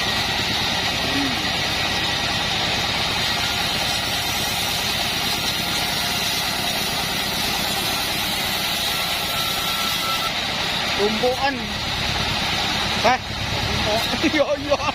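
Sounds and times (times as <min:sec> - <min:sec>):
band sawmill droning: 0:00.0 - 0:14.9.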